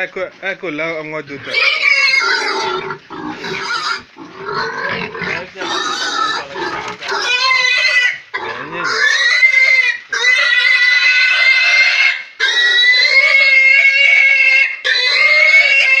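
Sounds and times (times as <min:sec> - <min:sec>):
pig squealing loudly: 0:01.4 - 0:16.0.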